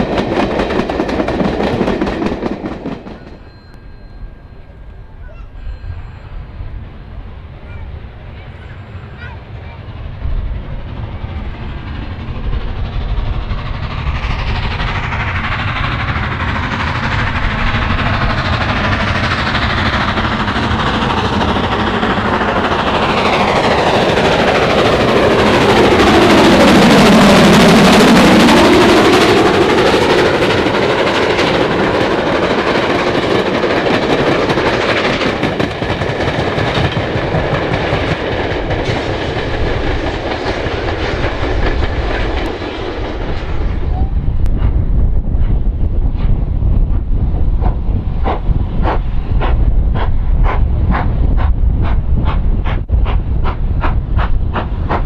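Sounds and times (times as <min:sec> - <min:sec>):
steam train passing: 0:00.0 - 0:55.0.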